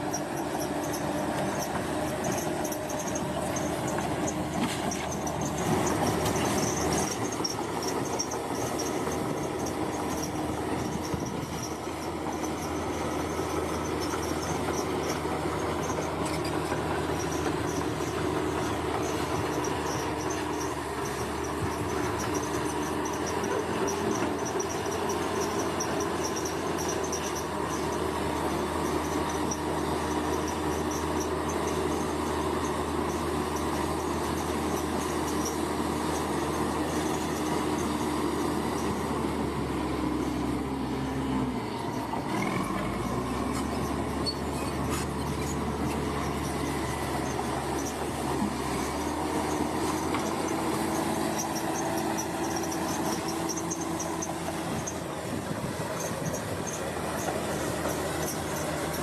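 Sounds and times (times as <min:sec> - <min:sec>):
insects chirping: 0:00.0 - 0:39.0, 0:43.0 - 0:55.2
bulldozer diesel engine clattering: 0:00.0 - 0:59.0.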